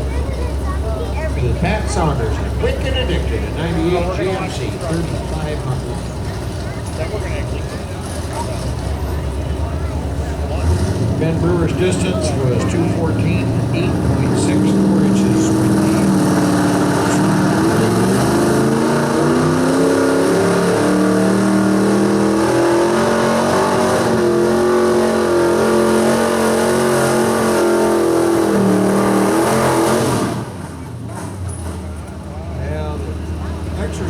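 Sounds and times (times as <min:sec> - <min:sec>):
truck engine at full power: 0:00.0 - 0:34.0.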